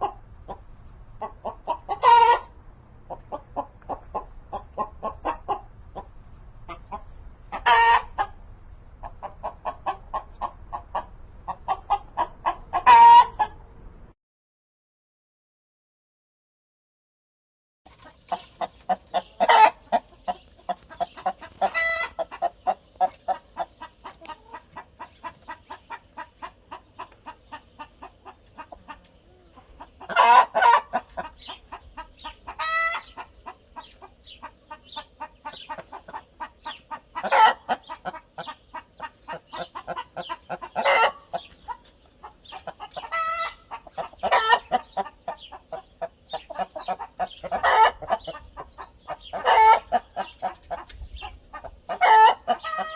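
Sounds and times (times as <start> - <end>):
hen clucking: 0.0 - 13.7, 17.9 - 52.9.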